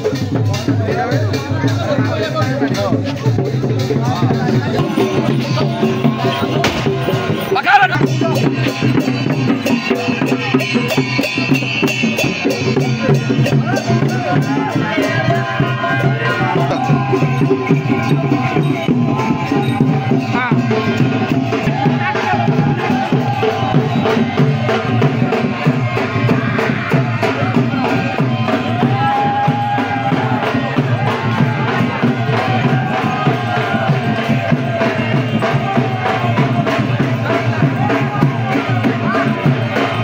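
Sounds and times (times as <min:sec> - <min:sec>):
drums and percussion: 0:00.0 - 0:40.0.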